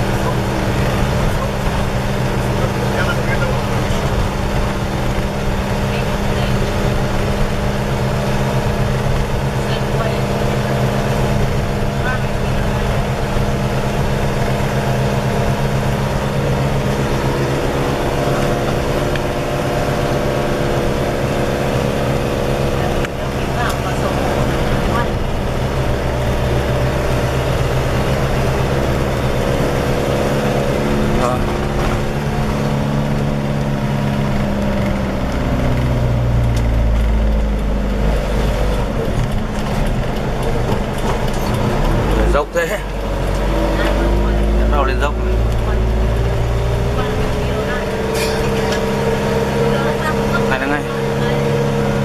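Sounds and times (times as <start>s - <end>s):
engine droning steadily: 0.0s - 52.0s.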